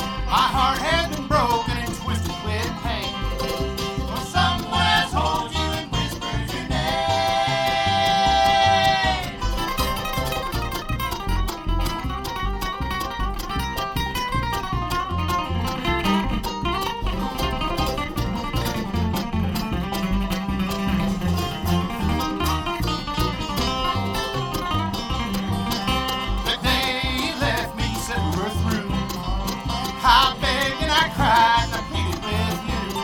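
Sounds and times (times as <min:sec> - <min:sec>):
picked acoustic strings: 0:00.0 - 0:33.0
walking bass: 0:00.0 - 0:33.0.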